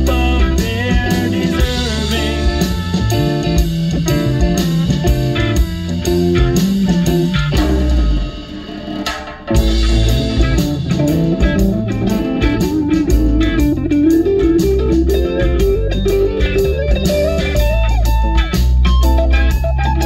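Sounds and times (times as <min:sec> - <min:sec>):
bass guitar: 0:00.0 - 0:20.0
electric guitar melody: 0:00.0 - 0:20.0
steady drum beat: 0:00.0 - 0:20.0.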